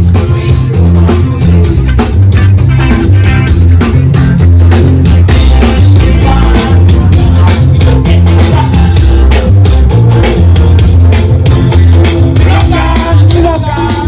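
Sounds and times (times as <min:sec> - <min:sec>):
loud band music: 0:00.0 - 0:14.0.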